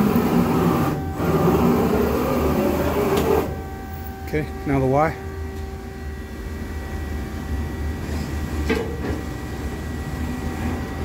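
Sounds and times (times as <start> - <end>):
machine hum and whine: 0.0 - 11.0.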